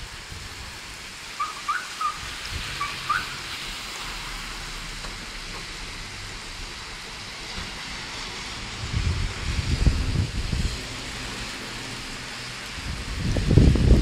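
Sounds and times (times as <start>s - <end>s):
rain on pavement: 0.0s - 14.0s.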